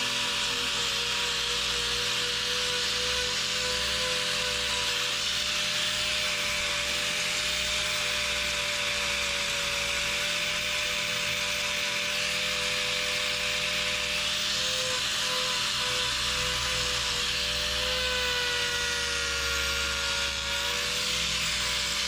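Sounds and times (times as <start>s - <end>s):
angle grinder grinding hoof: 0.0s - 22.0s.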